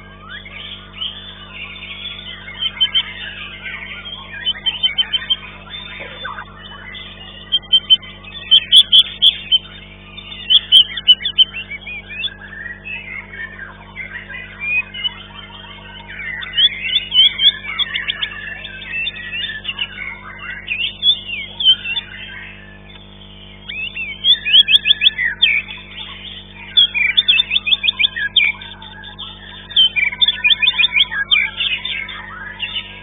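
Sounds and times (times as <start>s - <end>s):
bird singing rapid chattering runs: 0.0s - 33.0s
other birds singing: 0.0s - 33.0s.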